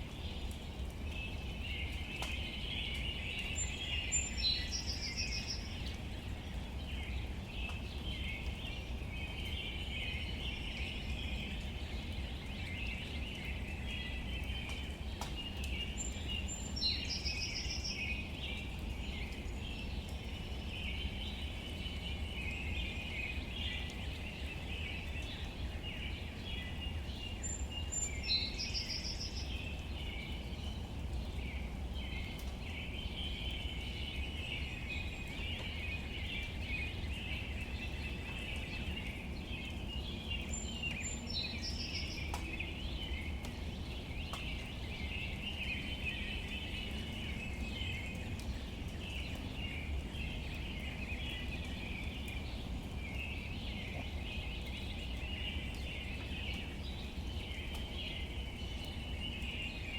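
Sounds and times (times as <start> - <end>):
chorus of chirping birds or insects: 0.4 - 59.9.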